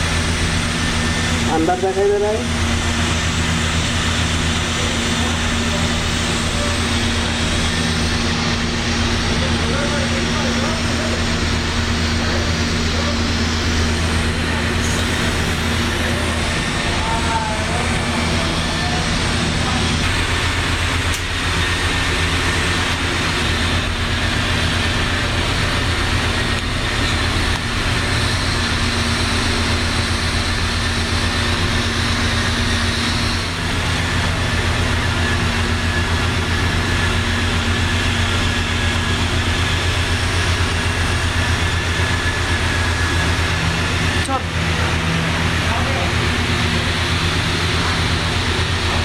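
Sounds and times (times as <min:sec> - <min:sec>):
welding machine hum: 0:00.0 - 0:49.0.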